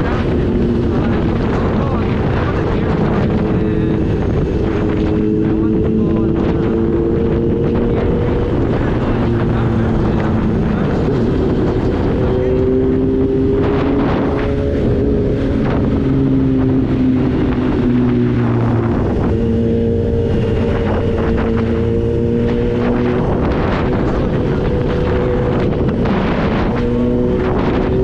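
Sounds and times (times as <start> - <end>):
motorcycle engine cruising: 0.0 - 28.0
wind rushing over microphone: 0.0 - 28.0.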